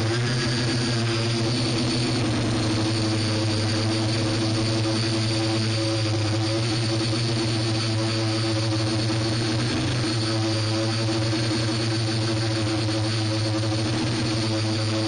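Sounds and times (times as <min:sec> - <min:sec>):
drone motors humming: 0:00.0 - 0:15.0
faint high whine: 0:00.0 - 0:15.0.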